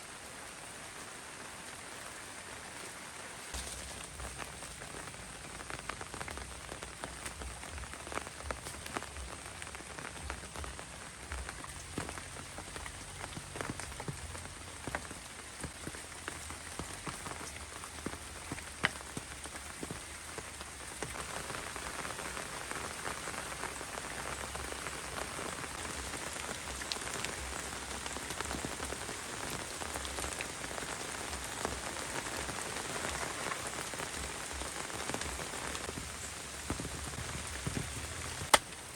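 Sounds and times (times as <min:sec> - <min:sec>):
heavy rain falling: 0:00.0 - 0:38.9
raindrops ticking: 0:03.5 - 0:38.9.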